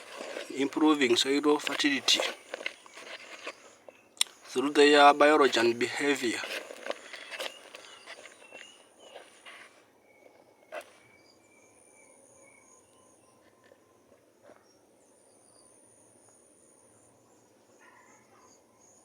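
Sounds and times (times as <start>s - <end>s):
faint chirps: 0.0s - 19.0s
insects trilling: 0.0s - 19.0s.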